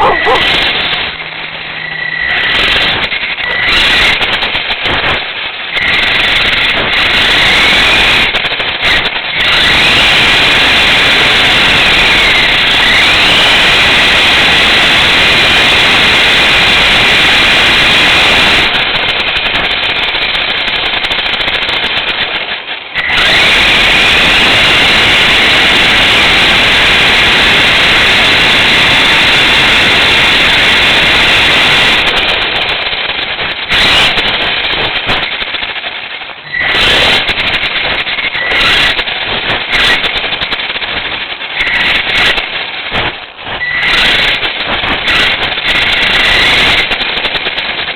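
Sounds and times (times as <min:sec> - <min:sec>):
rc car motor rattling and whining: 0:00.0 - 0:47.9.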